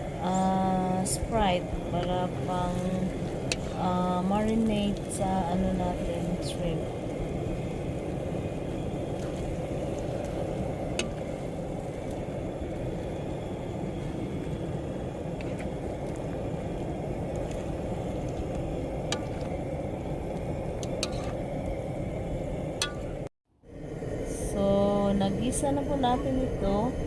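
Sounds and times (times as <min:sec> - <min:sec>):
gas stove burner running: 0:00.0 - 0:23.3.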